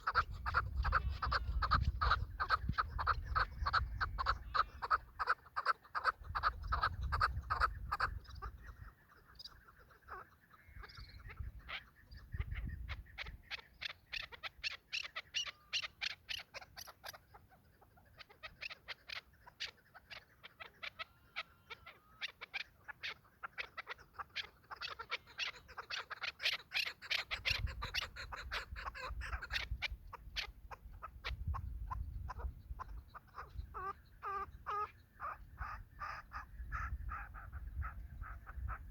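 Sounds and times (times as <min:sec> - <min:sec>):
partridges calling: 0:00.0 - 0:38.9.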